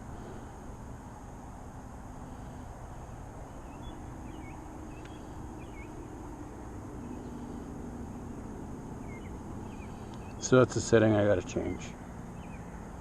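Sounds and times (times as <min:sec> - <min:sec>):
faint hum: 0:00.0 - 0:13.0
low outdoor rumble: 0:00.0 - 0:13.0
faint bird chirps: 0:02.2 - 0:13.0.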